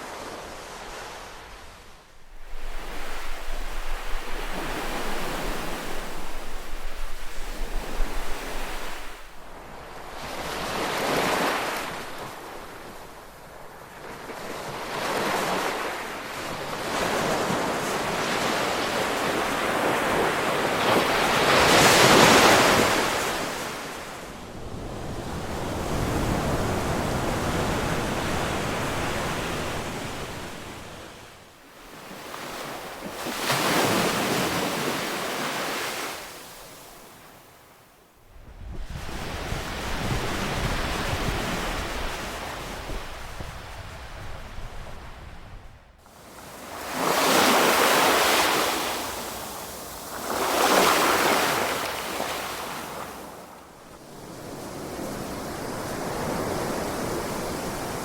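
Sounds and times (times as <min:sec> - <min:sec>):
ocean waves breaking on shore: 0:00.0 - 0:37.9, 0:38.6 - 0:58.0.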